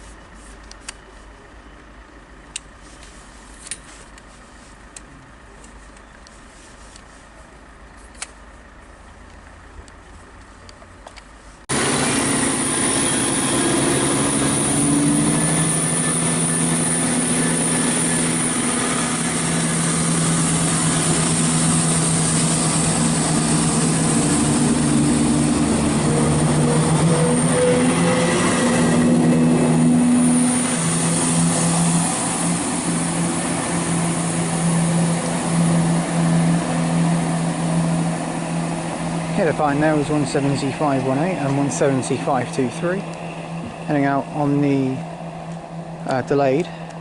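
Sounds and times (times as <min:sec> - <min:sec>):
diesel train engines droning: 0:00.0 - 0:47.0.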